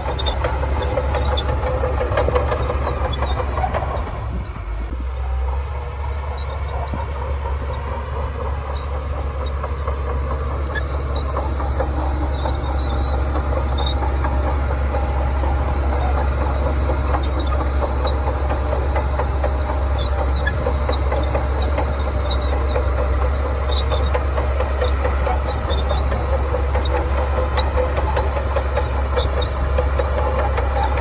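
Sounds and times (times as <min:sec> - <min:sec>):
bulldozer engine droning: 0:00.0 - 0:31.0
steel tracks clanking: 0:00.0 - 0:31.0.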